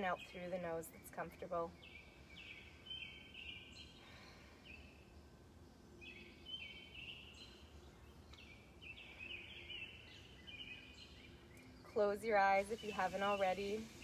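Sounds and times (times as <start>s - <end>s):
outdoor background noise: 0.0s - 14.0s
songbirds chirping: 0.0s - 14.0s.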